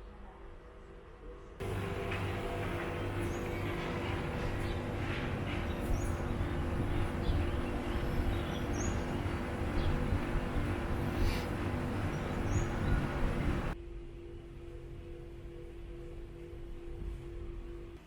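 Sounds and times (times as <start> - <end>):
low ambient hum: 0.0 - 18.0.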